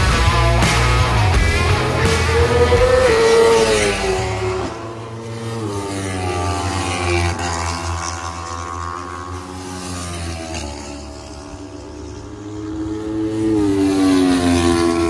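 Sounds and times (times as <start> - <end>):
sport motorcycle engines racing: 0.0 - 15.0.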